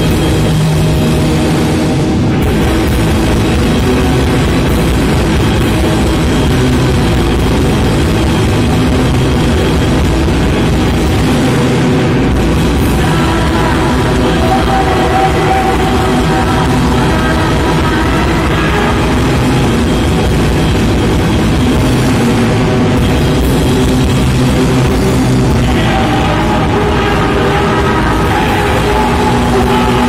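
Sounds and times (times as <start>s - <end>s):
punk band playing live: 0.0s - 30.0s.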